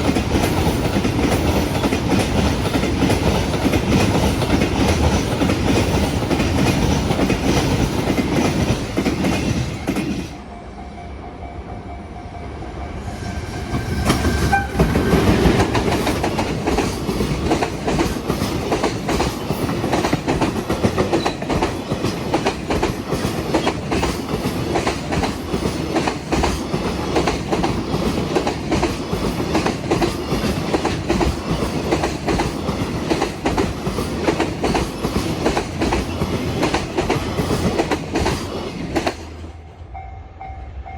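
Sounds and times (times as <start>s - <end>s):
freight train rumble: 0.0s - 40.9s.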